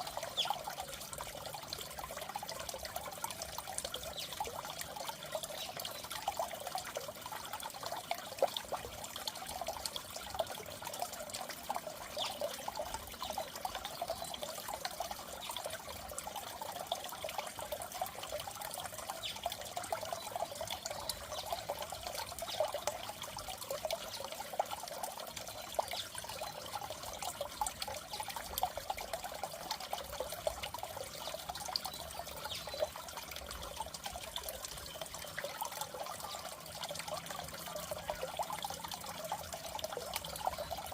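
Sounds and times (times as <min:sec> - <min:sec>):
aquarium water trickling and bubbling: 0:00.0 - 0:40.9.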